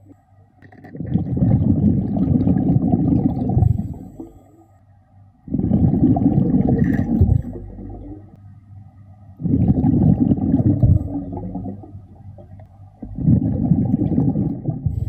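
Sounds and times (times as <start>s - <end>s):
exhaled bubbles underwater: 0.6s - 4.5s, 5.4s - 8.4s, 9.4s - 15.0s.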